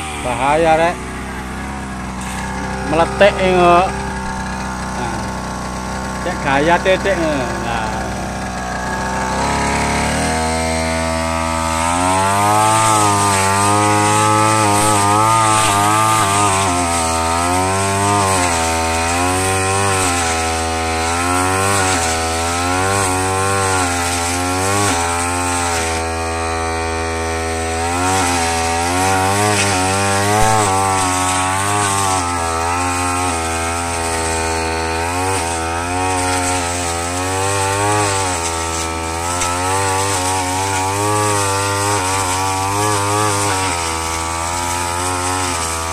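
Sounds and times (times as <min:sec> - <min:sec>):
brush cutter engine running: 0:00.0 - 0:45.9.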